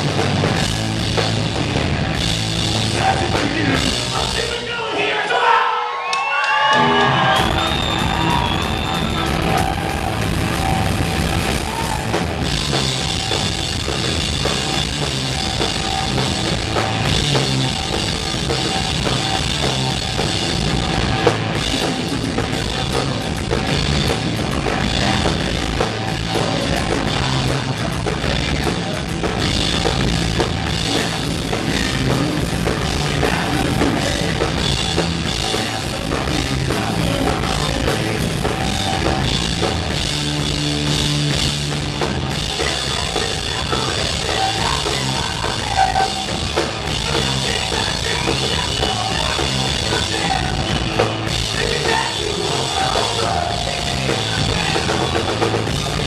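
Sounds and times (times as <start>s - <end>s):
live rock band: 0.0s - 5.4s, 6.1s - 56.0s.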